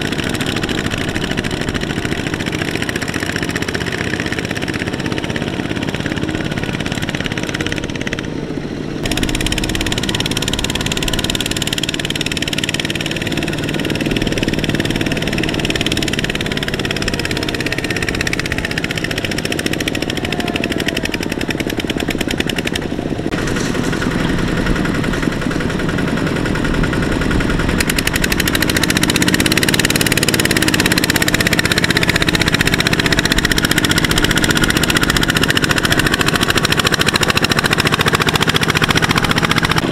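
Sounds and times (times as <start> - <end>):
diesel engines running hard: 0.0 - 39.9
sharp exhaust beat: 0.0 - 39.9.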